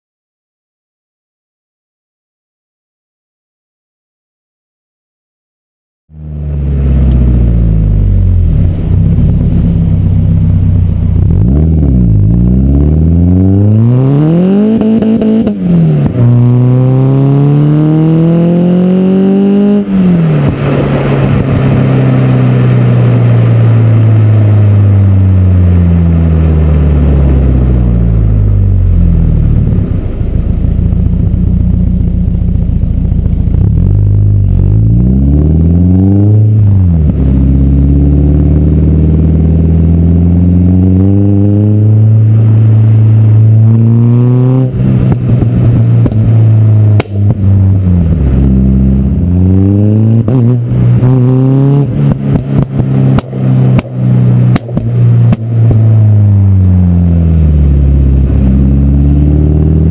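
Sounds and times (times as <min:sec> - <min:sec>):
car engine revving: 0:06.1 - 0:59.9
exhaust crackling on overrun: 0:06.1 - 0:59.9.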